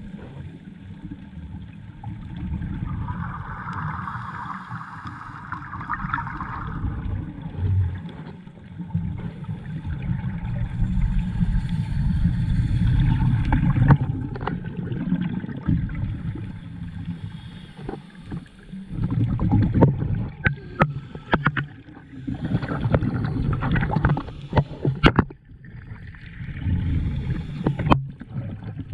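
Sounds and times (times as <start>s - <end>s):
low underwater rumble: 0.0s - 28.9s
scuba exhaust bubbles: 0.0s - 28.9s.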